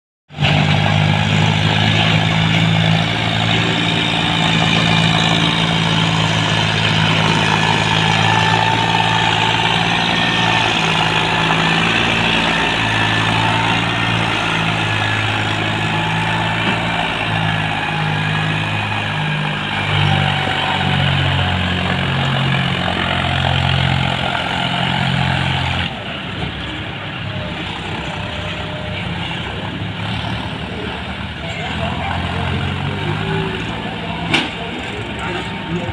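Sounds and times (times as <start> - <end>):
diesel tractor engines running: 0.3 - 35.9.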